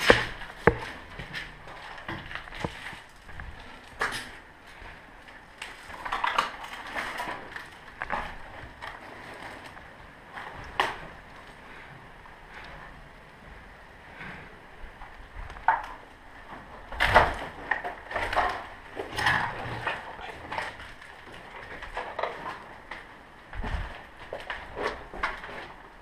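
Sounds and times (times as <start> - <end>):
footsteps crunching over rubble: 0.0 - 13.1, 14.8 - 26.0.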